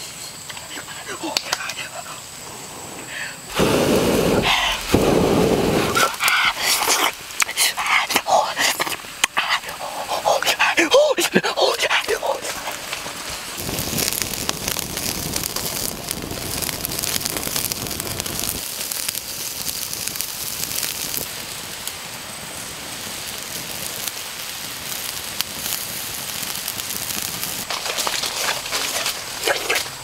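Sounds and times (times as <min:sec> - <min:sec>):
food sizzling on hot rock: 0:00.2 - 0:30.0
wood fire crackling: 0:00.4 - 0:30.0.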